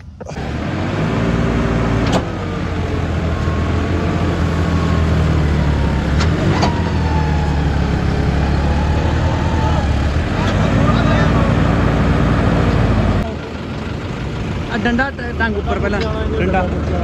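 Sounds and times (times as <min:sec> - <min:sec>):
tractor engine straining: 0:00.0 - 0:17.0.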